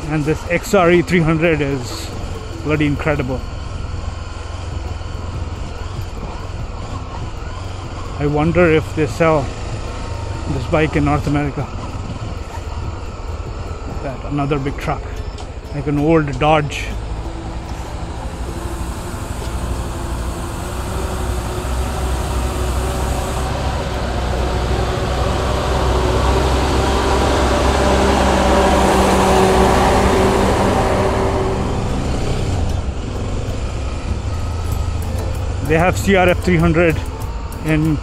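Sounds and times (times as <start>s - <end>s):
motorcycle running: 0.0s - 38.0s
truck engine passing: 0.0s - 38.0s.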